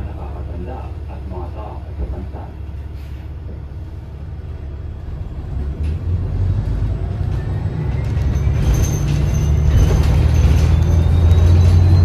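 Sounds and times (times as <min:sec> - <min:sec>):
bus drivetrain rumble: 0:00.0 - 0:12.0.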